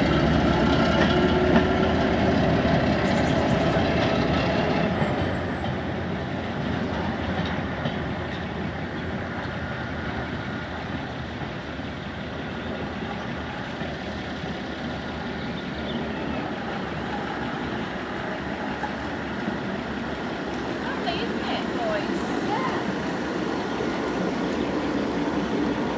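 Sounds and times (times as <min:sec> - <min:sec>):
diesel train running: 0:00.0 - 0:25.9.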